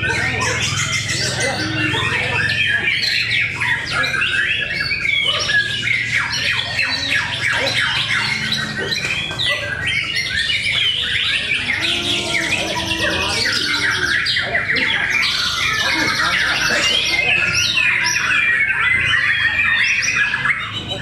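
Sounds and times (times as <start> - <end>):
birds singing in chorus: 0.0 - 21.0.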